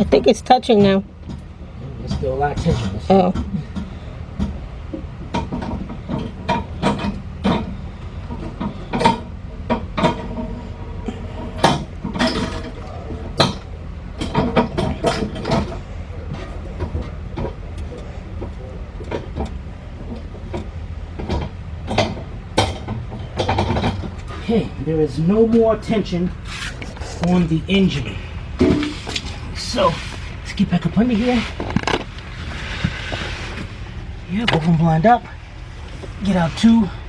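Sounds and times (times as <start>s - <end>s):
steady low hum: 0.0s - 37.0s
metallic clicks and clunks: 0.7s - 24.7s, 28.6s - 36.3s.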